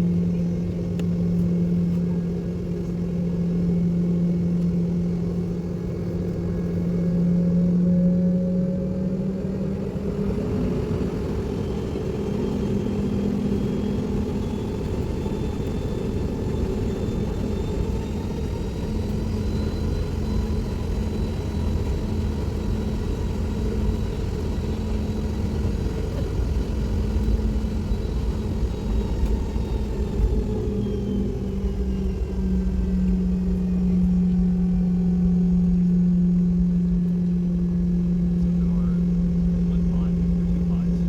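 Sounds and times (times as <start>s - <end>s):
airliner engine rumble: 0.0s - 41.0s.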